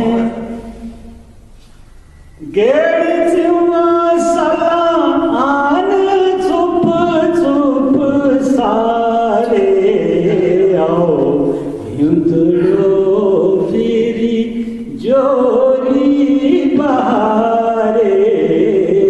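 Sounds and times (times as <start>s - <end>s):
man singing unaccompanied: 0.0s - 1.2s, 2.4s - 19.0s.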